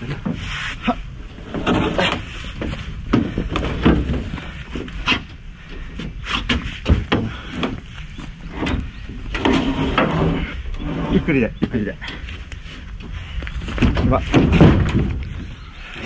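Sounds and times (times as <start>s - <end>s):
wooden beams knocking and scraping: 0.0s - 0.7s, 1.3s - 16.0s.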